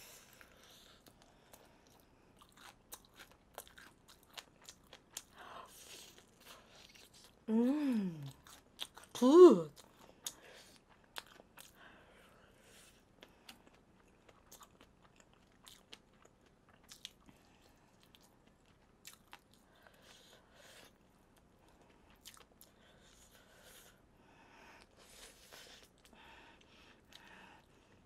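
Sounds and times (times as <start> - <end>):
chewing crispy fried chicken: 0.1 - 7.5, 8.1 - 24.1.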